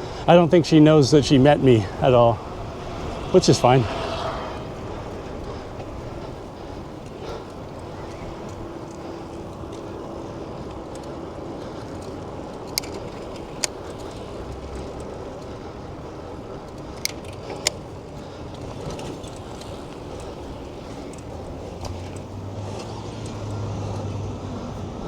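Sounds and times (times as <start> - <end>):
city traffic: 0.0 - 25.0.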